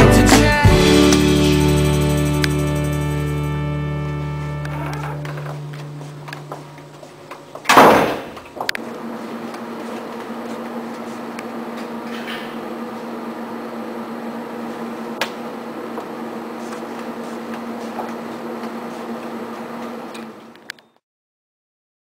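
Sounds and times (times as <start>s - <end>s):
indoor building hum: 0.0s - 21.0s.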